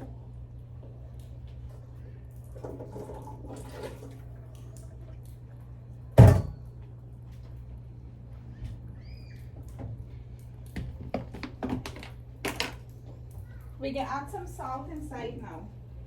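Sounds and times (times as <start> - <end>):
faint kitchen clatter: 0.0 - 15.8
low steady hum: 0.0 - 16.0.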